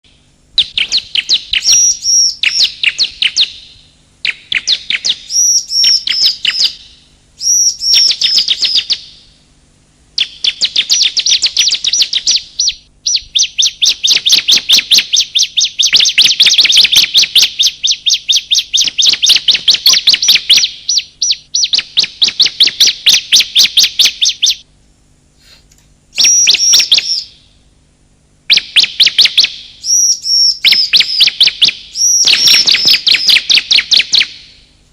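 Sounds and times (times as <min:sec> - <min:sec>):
bird calling high chips: 0:00.1 - 0:09.4, 0:10.2 - 0:24.6, 0:25.4 - 0:27.6, 0:28.5 - 0:34.7.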